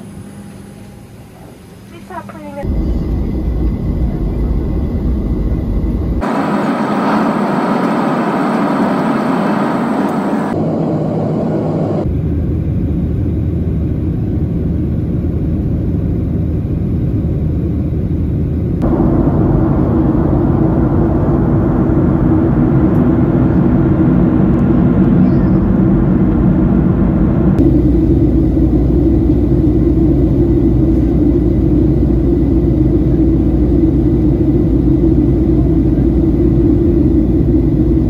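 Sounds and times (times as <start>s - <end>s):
jet engine roar in cabin: 0.0s - 38.0s.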